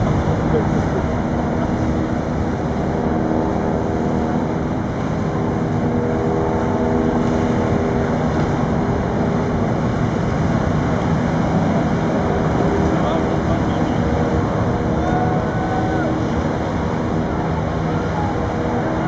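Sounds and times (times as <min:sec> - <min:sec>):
boat engines droning: 0:00.0 - 0:19.0
wind on microphone: 0:00.0 - 0:19.0.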